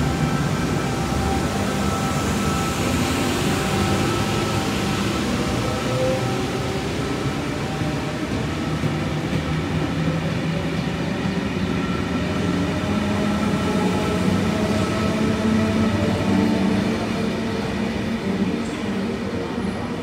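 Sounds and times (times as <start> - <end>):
train low hum: 0.0 - 20.0
train wheels rumbling: 0.0 - 20.0.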